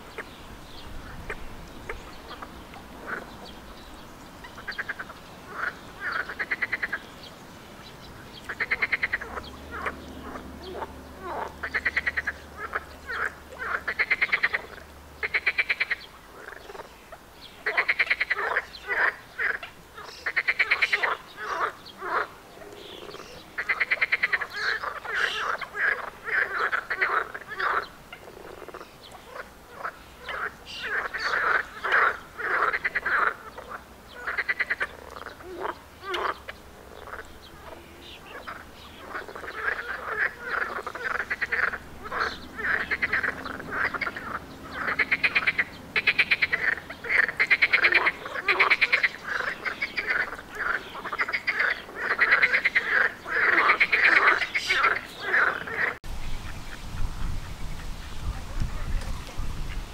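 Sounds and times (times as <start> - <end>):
frogs croaking: 0.0 - 56.8.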